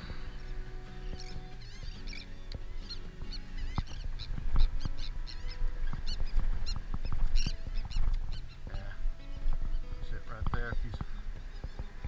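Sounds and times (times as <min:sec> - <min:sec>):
birds chirping: 0:00.0 - 0:12.0
wind rumbling on microphone: 0:00.0 - 0:12.0.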